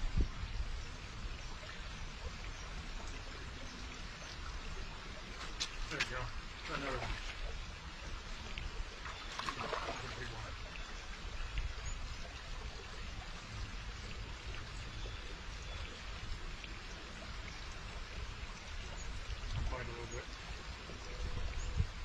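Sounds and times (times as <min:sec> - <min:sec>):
running water trickling: 0:00.0 - 0:22.0.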